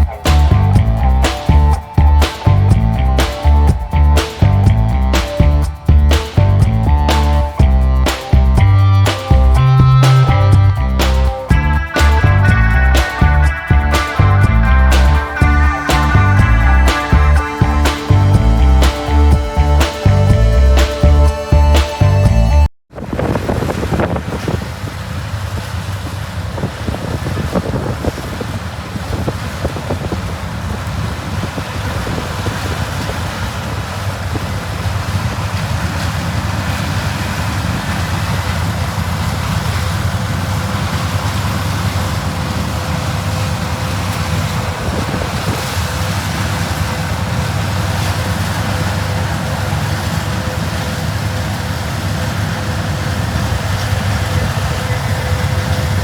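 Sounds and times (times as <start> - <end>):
machinery engine drone: 0.0 - 22.7, 33.5 - 56.0.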